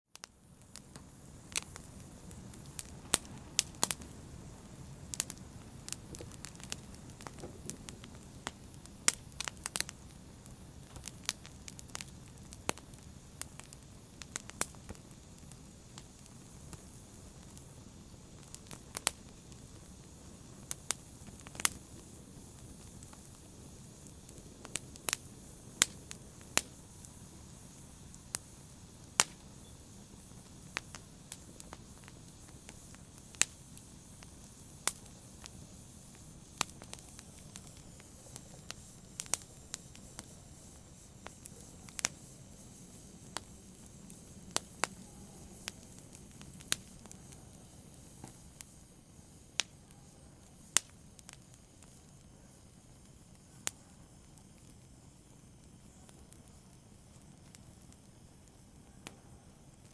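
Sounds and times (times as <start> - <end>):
wood fire crackling: 0.1 - 59.9.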